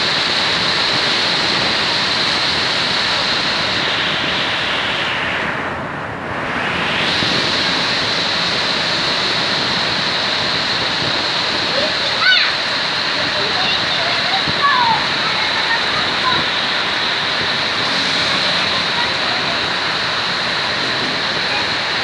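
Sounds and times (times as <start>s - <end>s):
heavy rain on road and roof: 0.0s - 22.0s.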